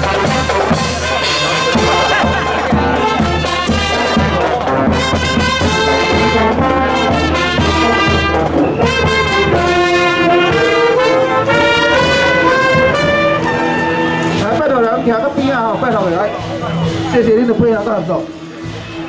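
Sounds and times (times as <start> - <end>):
brass marching band playing: 0.0 - 19.0.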